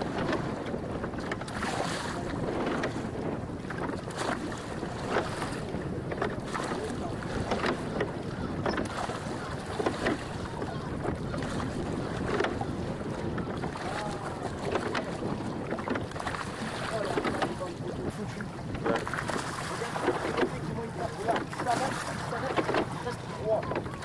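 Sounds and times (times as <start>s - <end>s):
water splashing along boat hull: 0.0s - 24.0s
wind on microphone: 0.0s - 24.0s.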